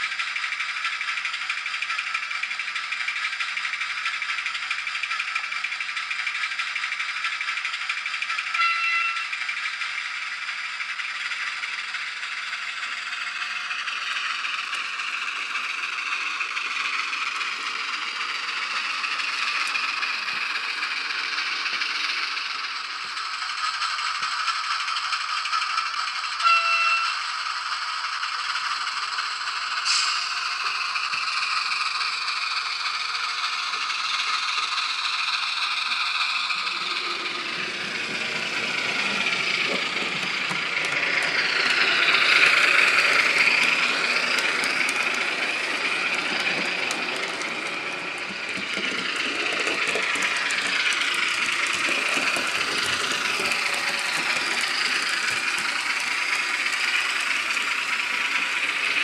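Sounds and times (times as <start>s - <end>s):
diesel engine sound from small speaker: 0.0s - 59.0s
model locomotive rumble: 0.0s - 59.0s.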